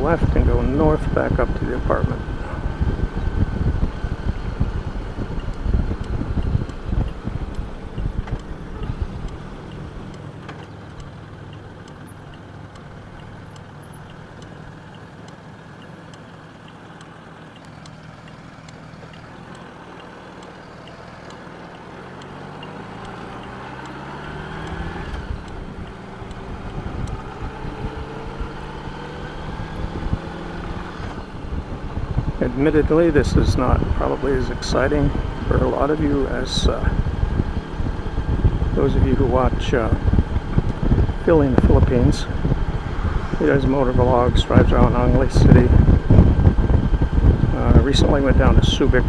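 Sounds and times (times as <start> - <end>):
wind buffeting microphone: 0.0 - 14.8, 22.8 - 49.0
motorcycle engine: 0.0 - 49.0.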